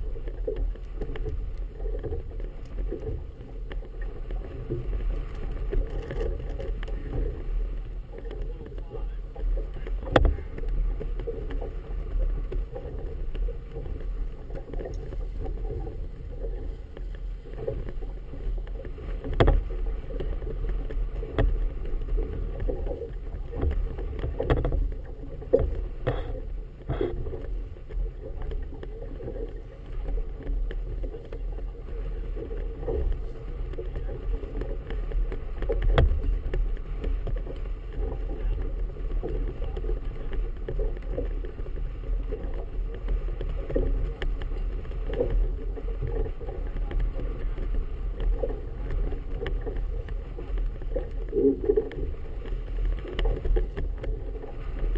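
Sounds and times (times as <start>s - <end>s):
water lapping against boat hull: 0.0s - 54.9s
wind rumble on microphone: 0.0s - 54.9s.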